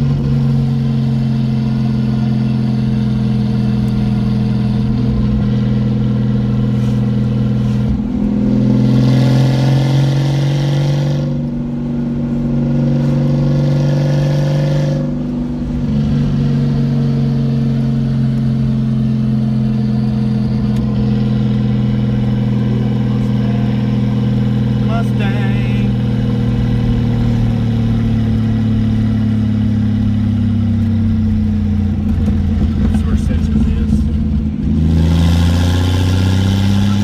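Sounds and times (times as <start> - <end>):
car engine running: 0.0 - 37.0.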